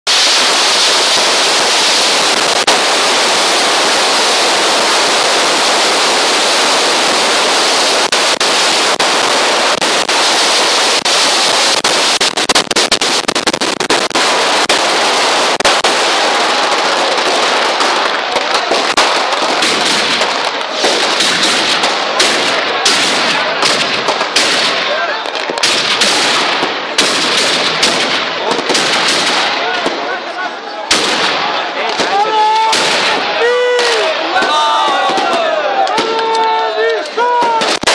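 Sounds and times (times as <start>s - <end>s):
sharp firecracker bangs: 0.1s - 36.6s, 37.2s - 37.9s
firecrackers crackling: 0.1s - 37.9s.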